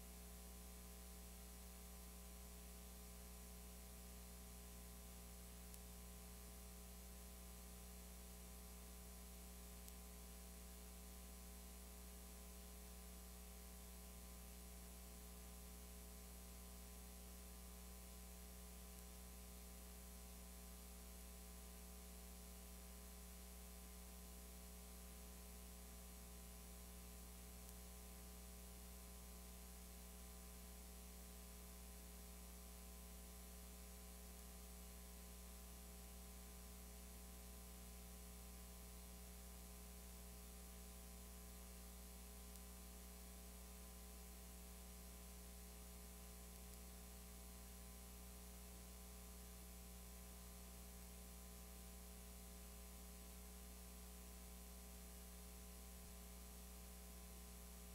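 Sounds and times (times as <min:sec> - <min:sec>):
faint electrical hum: 0:00.0 - 0:57.9
low hiss: 0:00.0 - 0:57.9.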